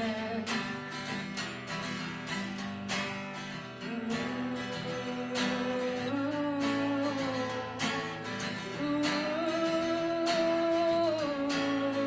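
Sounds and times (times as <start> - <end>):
woman singing wordless melody: 0.0 - 1.2, 3.5 - 12.0
strummed acoustic guitar: 0.0 - 12.0.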